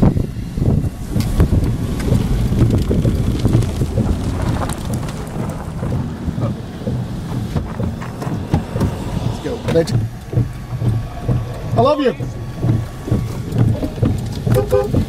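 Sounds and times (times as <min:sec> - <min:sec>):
car rumble: 0:00.0 - 0:15.0
wind buffeting microphone: 0:00.0 - 0:15.0.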